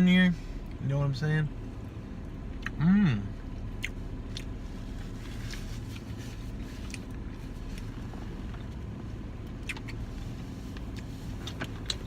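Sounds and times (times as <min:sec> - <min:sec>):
heater fan: 0:00.0 - 0:12.0.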